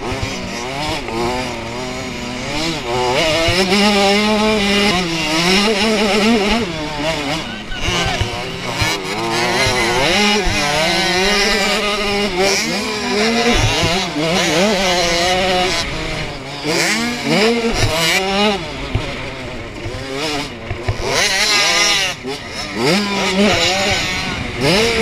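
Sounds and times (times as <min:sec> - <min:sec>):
two-stroke motocross engine revving: 0:00.0 - 0:25.0.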